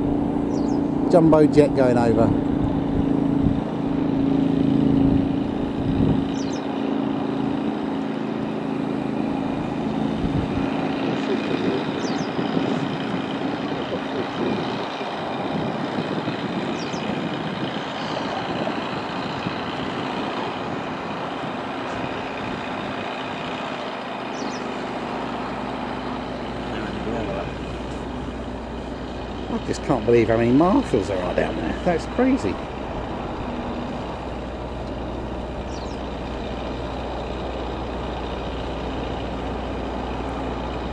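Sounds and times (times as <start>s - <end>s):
vehicle engine hum: 0.0s - 40.9s.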